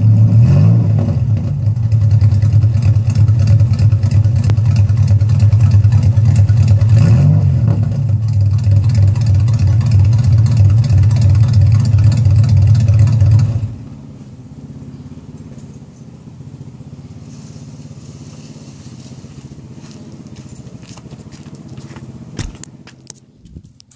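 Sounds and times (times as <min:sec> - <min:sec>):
loud car exhaust revving: 0:00.0 - 0:15.6, 0:16.2 - 0:22.7
car engine idling: 0:01.0 - 0:23.9.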